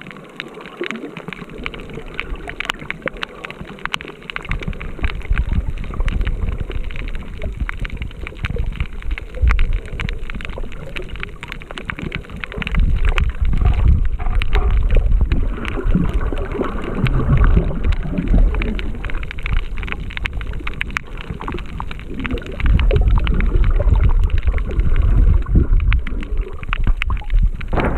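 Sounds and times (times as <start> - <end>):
underwater clicks and crackles: 0.0 - 27.9
underwater water rumbling: 0.0 - 27.9.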